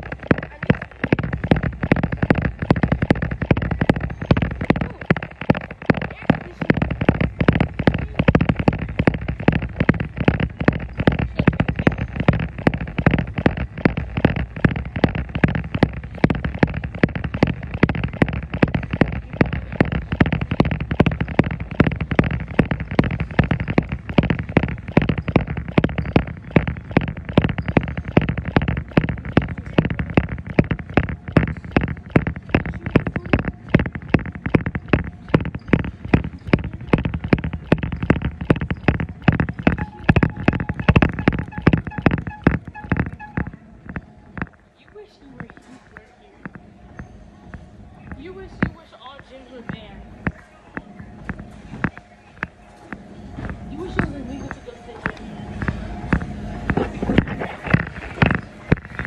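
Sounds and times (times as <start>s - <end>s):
footfalls jogging on treadmill: 0.0s - 52.6s, 53.4s - 59.0s
low machine hum: 0.0s - 59.0s.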